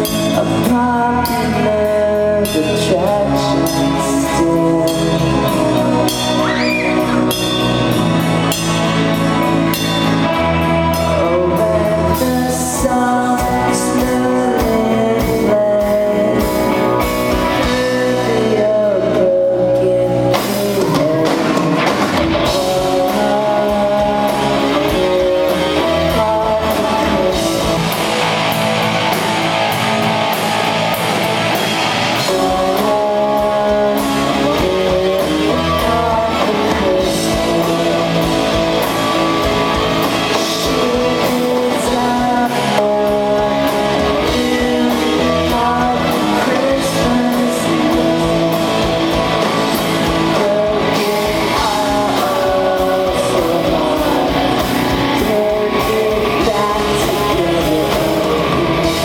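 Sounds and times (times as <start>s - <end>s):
drum kit: 0.0s - 59.0s
electric guitars: 0.0s - 59.0s
person singing: 0.0s - 59.0s.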